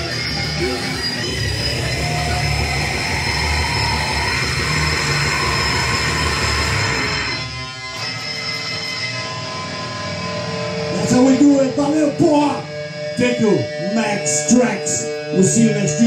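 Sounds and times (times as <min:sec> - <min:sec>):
distorted electric guitar riffing: 0:00.0 - 0:16.0.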